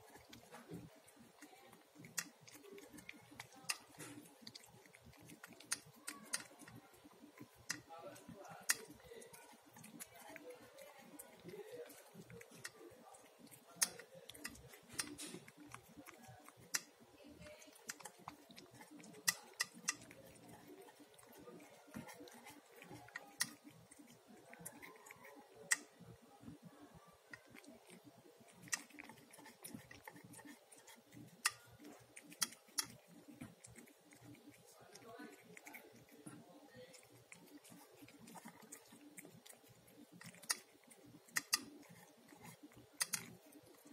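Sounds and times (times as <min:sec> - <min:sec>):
cat chewing: 0:00.0 - 0:43.9.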